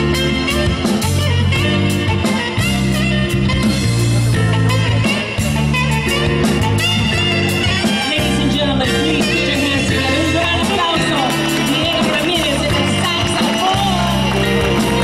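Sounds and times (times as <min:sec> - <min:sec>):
drum kit with cymbals: 0:00.0 - 0:15.0
electric keyboard: 0:00.0 - 0:15.0
saxophone melody: 0:00.0 - 0:15.0.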